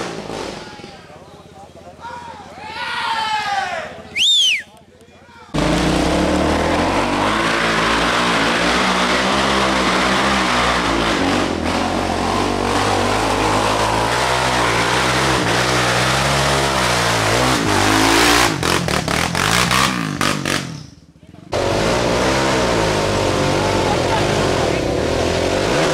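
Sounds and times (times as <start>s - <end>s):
atv engine revving: 0.0s - 1.8s, 3.8s - 25.9s.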